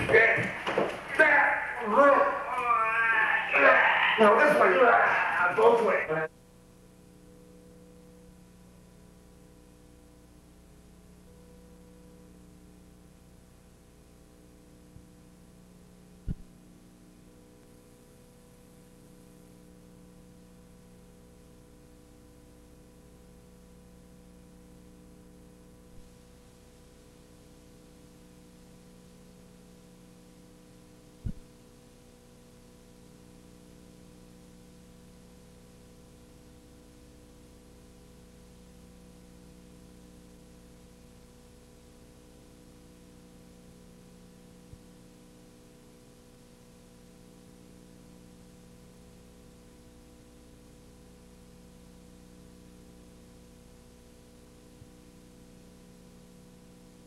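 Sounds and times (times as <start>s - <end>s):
faint tape hiss: 0.0s - 57.0s
steady electrical hum: 0.0s - 57.0s.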